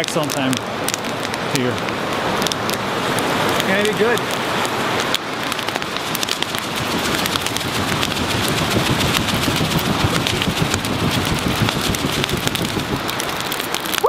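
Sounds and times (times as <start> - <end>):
campfire crackling and popping: 0.0 - 14.0
fire rushing noise: 0.0 - 14.0.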